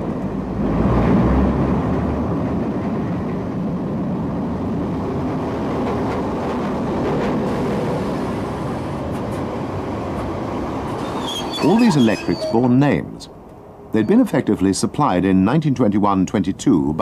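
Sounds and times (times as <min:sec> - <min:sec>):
electric locomotive rumbling on track: 0:00.0 - 0:17.0.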